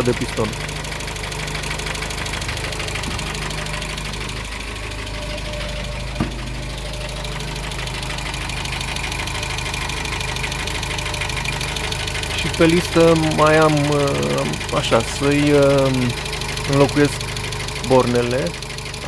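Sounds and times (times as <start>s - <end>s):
car engine idling with knock: 0.0s - 19.0s.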